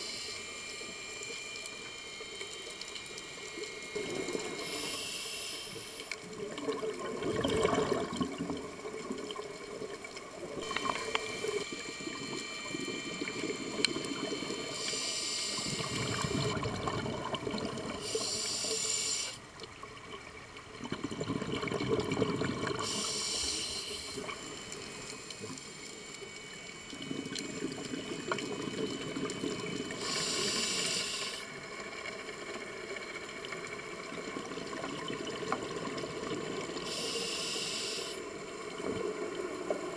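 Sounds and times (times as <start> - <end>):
regulator breath hiss and bubbling: 0.0 - 39.9
underwater watery murmur: 0.0 - 39.9.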